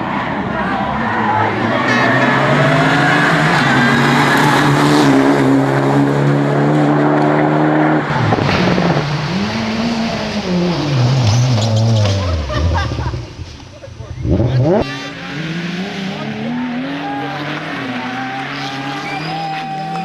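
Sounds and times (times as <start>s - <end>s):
racing car engine revving: 0.0s - 20.0s.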